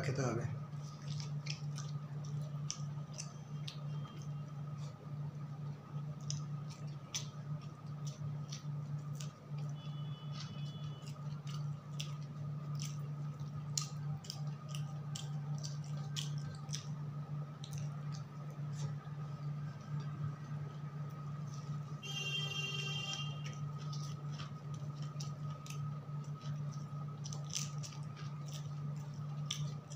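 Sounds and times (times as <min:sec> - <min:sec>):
fingers mixing rice: 0:00.1 - 0:29.9
low hum: 0:00.5 - 0:29.9
wet chewing and lip smacks: 0:00.6 - 0:29.9.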